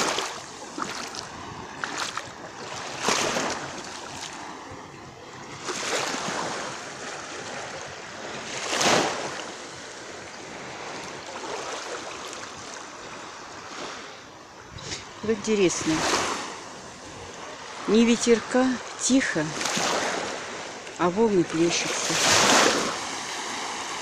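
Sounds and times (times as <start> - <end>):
small waves splashing on beach: 0.0 - 24.0.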